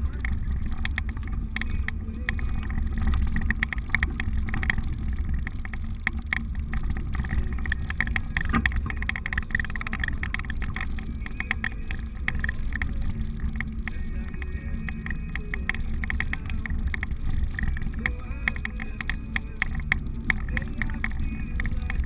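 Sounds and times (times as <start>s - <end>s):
engine and tyre rumble: 0.0s - 22.0s
vehicle interior rattles: 0.0s - 22.0s.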